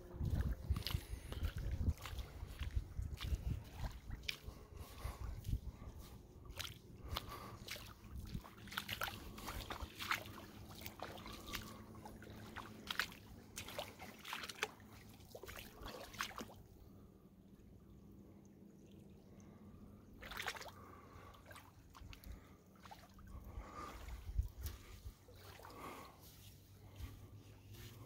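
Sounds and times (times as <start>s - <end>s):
paddle water splashes and drips: 0.2s - 26.4s.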